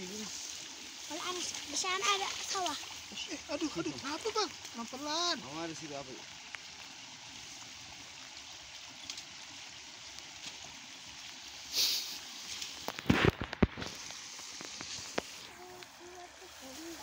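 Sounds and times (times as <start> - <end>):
steady watery hiss: 0.0 - 17.0.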